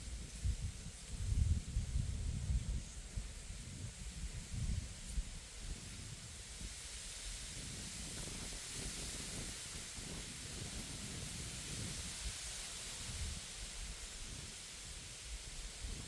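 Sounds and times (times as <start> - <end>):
wind buffeting microphone: 0.0 - 16.0
wind rustling through reeds: 0.0 - 16.0.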